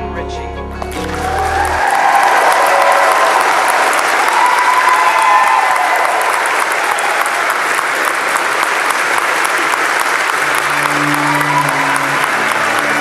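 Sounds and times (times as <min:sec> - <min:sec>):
crowd applauding: 0:00.8 - 0:13.0.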